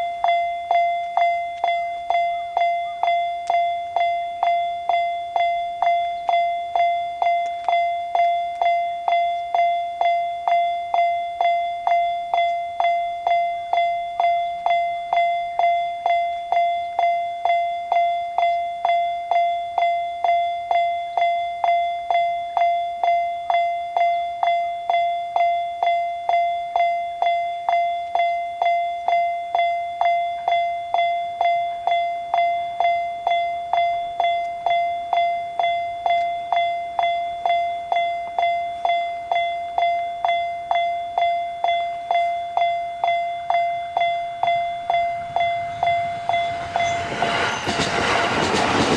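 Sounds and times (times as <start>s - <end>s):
level crossing alarm bell: 0.0s - 48.9s.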